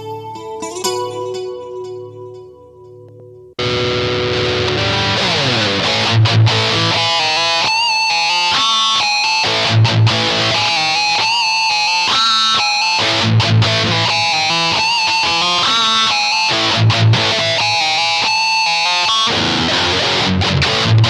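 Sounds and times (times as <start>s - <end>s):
electric guitar lead line: 0.0s - 21.0s.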